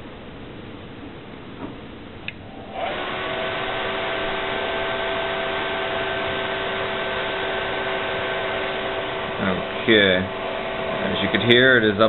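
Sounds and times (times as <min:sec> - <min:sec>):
cooling fan whirring with whine: 0:00.0 - 0:12.0.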